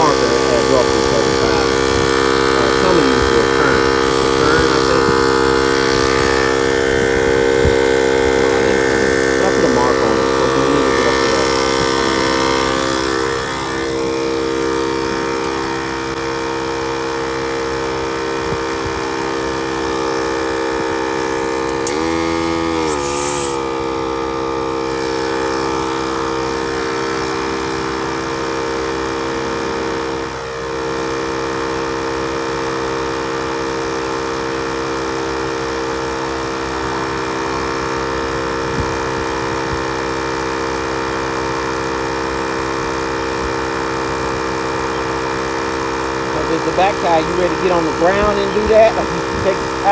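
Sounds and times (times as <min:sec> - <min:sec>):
tire inflator pump running: 0:00.0 - 0:49.9.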